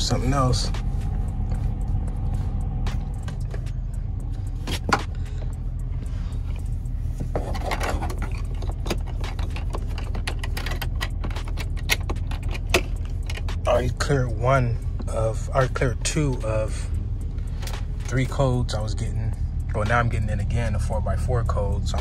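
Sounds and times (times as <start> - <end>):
car engine idling with stutter: 0.0 - 22.0
clicks and light rattling: 2.9 - 22.0.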